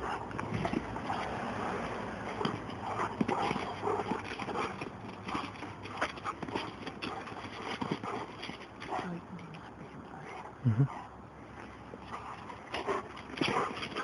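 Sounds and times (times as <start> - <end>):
dogs scampering footfalls: 0.0 - 10.4, 11.5 - 14.0.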